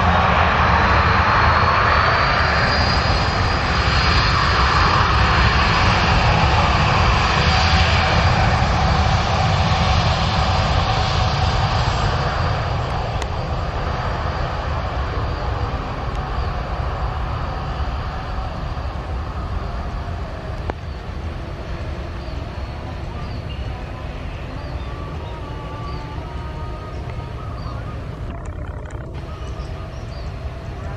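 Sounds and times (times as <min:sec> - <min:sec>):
jet airliner engines passing: 0:00.0 - 0:30.9.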